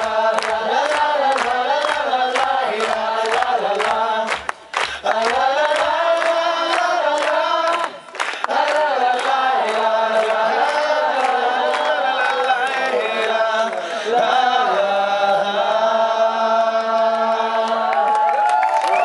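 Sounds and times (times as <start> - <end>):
man singing: 0.0 - 18.0
voices singing along: 0.0 - 19.0.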